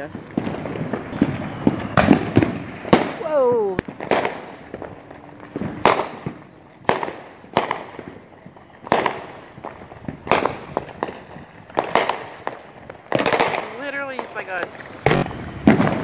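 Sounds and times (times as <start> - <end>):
fireworks booming: 0.0 - 16.0
fireworks pops and crackles: 0.0 - 16.0.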